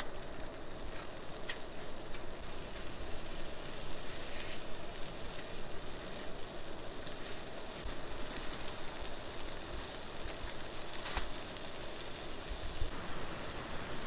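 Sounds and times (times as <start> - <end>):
rain and wind on a tent: 0.0 - 14.0.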